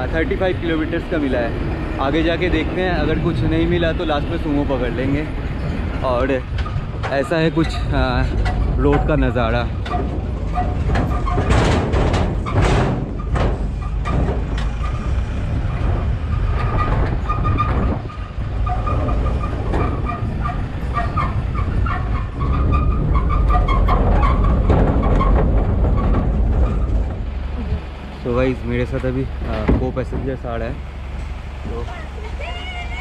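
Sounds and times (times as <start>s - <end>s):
metal body rattling: 0.0s - 33.0s
truck engine and tyres rumbling: 0.0s - 33.0s.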